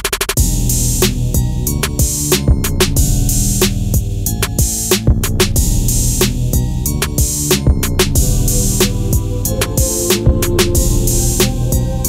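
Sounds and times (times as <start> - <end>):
steady drum beat: 0.0 - 12.0
background music: 0.4 - 12.0
bass line: 0.4 - 12.0.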